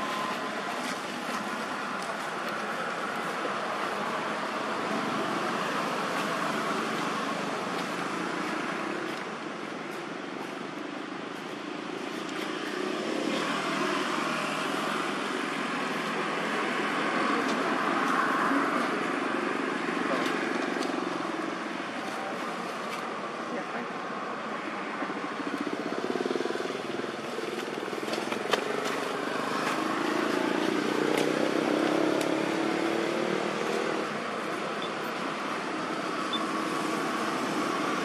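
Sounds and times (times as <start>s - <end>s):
vehicle traffic: 0.0s - 38.0s.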